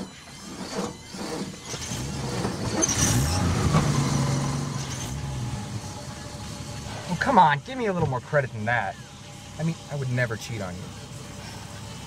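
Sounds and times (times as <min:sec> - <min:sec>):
vehicle engine starting and running: 0:00.0 - 0:12.0.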